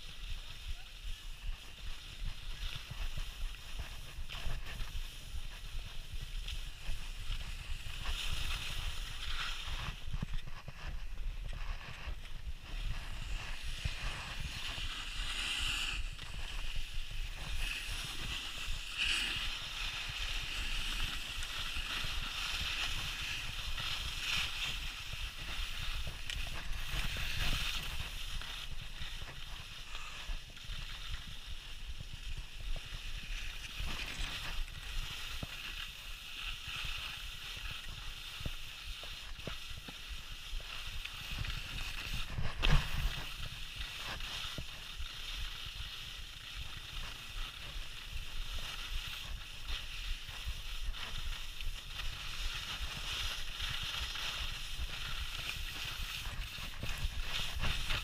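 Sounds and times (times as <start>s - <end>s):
skis scraping over packed snow: 0.0s - 58.0s
wind rumbling on microphone: 0.0s - 58.0s.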